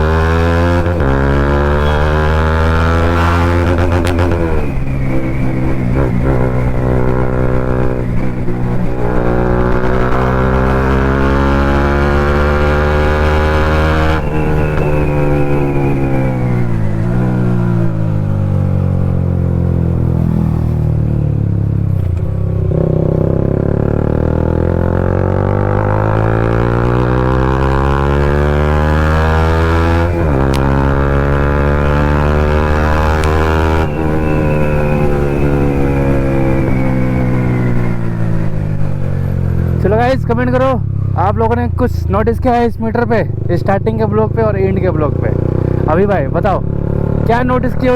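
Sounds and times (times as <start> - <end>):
motorcycle engine under throttle: 0.0 - 47.9.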